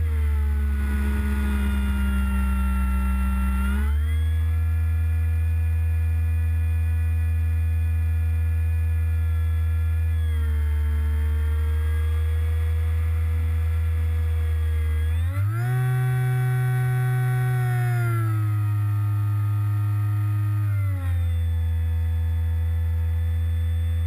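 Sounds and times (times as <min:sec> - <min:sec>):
model plane motor whining: 0:00.0 - 0:24.0.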